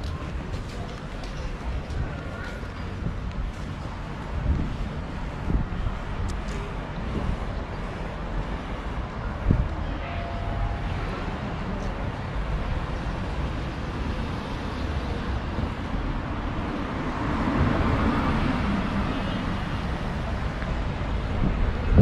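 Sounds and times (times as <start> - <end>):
town traffic rumble: 0.0 - 22.0.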